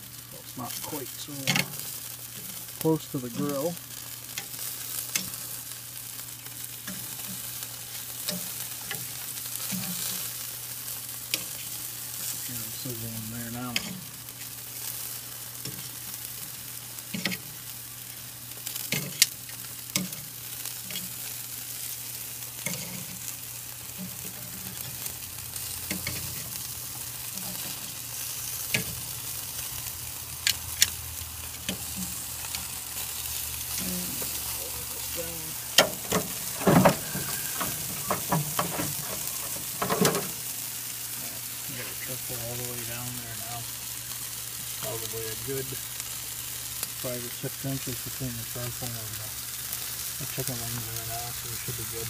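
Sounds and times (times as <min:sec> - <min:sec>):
chicken wings sizzling on grill: 0:00.0 - 0:52.0.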